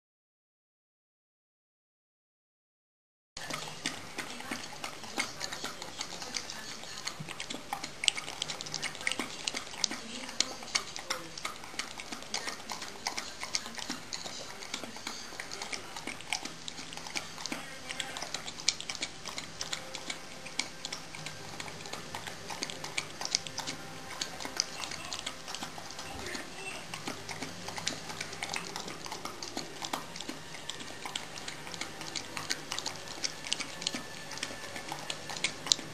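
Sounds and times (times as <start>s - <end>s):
dog lapping yogurt from bowl: 3.4s - 35.9s.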